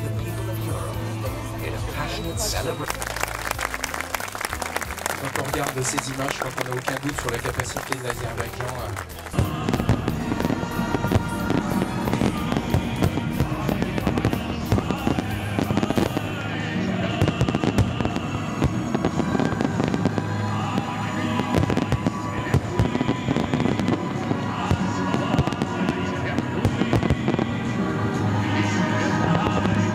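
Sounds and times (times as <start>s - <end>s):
music playing: 0.0s - 29.9s.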